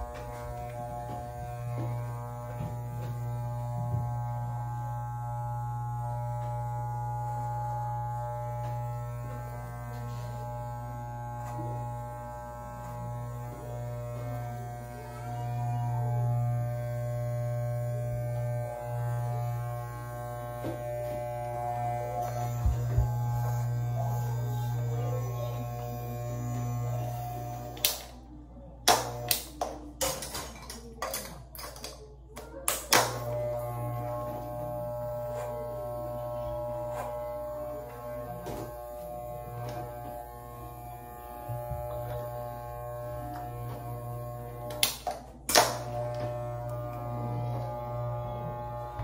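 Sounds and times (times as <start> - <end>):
electric beard trimmer buzzing: 0.0 - 28.2, 28.9 - 29.6, 33.0 - 49.0.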